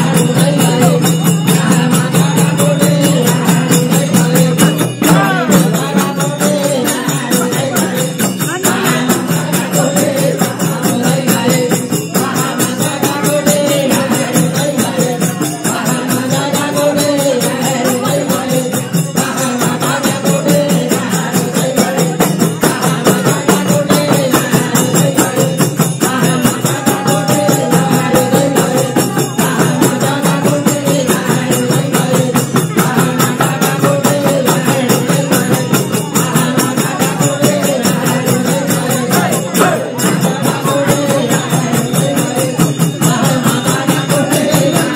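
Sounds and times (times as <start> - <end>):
hand drum beat: 0.0 - 44.9
jingling percussion: 0.0 - 44.9
voices singing a chant: 0.0 - 44.9.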